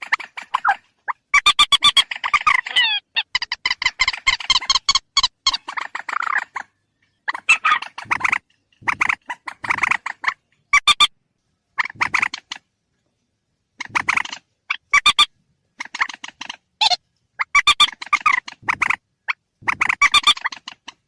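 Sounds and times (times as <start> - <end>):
rail bird clucking calls: 0.0 - 11.1, 11.7 - 12.7, 13.8 - 21.0.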